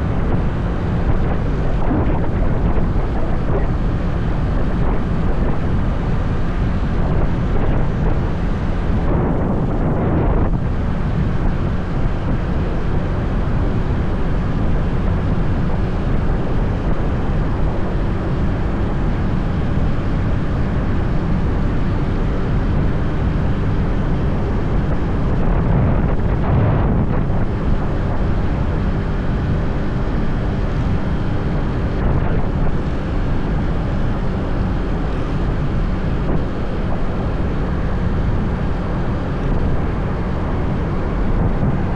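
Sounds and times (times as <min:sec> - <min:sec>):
wind rush on microphone: 0:00.0 - 0:41.9.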